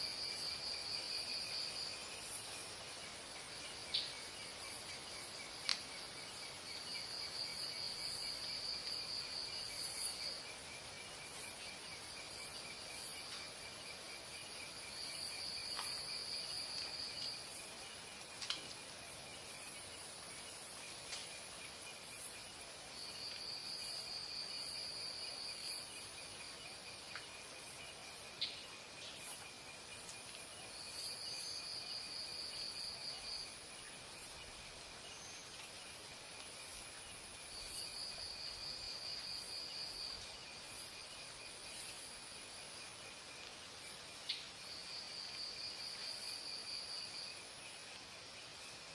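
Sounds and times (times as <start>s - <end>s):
high dry insect trill: 0.0s - 48.9s
insects chirring: 0.0s - 48.9s.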